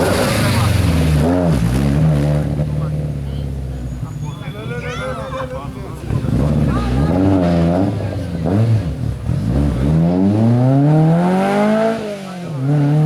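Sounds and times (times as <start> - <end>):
rally car engine revving: 0.0 - 4.4, 5.4 - 13.0.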